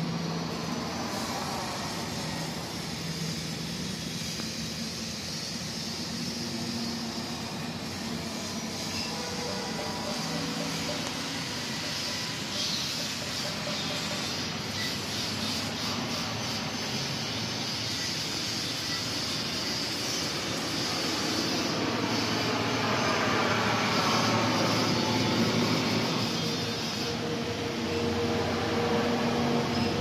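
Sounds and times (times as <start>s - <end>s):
highway traffic noise: 0.0s - 30.0s.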